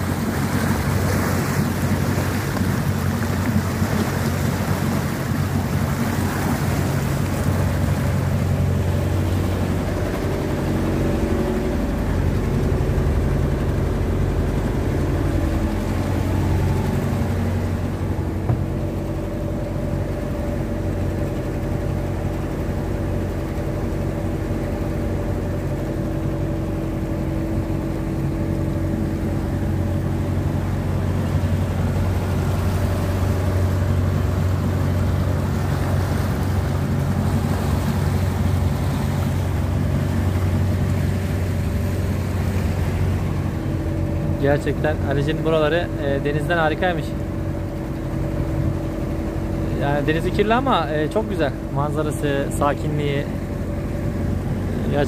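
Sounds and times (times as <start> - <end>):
motor boat engine running: 0.0 - 55.0
rush of wake and wind: 0.0 - 55.0.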